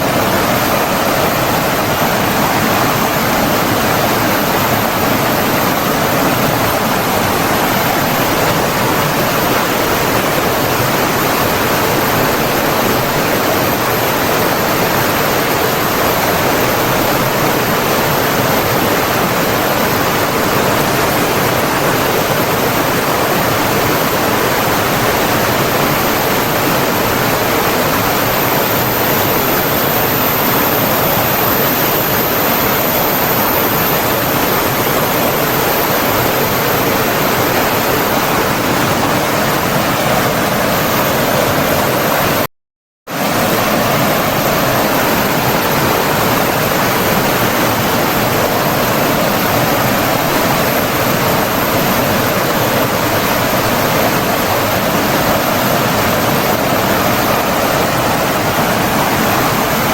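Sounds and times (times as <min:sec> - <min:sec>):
rushing flowing water: 0:00.0 - 0:42.5, 0:43.1 - 0:59.9.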